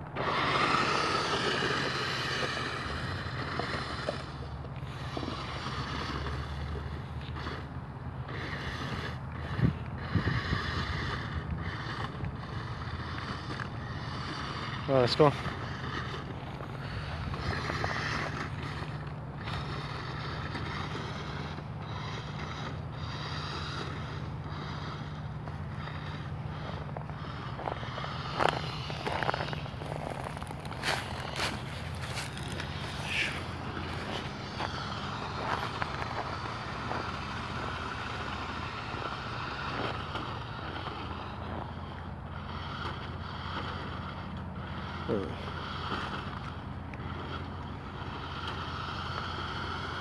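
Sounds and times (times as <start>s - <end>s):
constant low hum: 0.0s - 50.0s
toy car electric motor whining: 0.0s - 50.0s.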